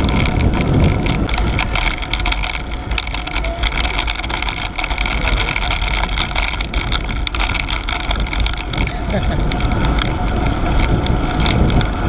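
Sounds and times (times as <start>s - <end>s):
bicycle tyre and road noise: 0.0s - 12.0s
wind rushing over microphone: 0.0s - 12.0s.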